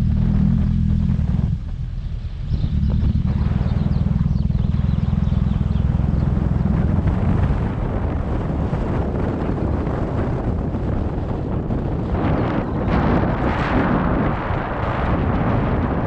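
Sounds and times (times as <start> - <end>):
car engine rumbling: 0.0 - 16.0
wind buffeting microphone: 0.0 - 16.0.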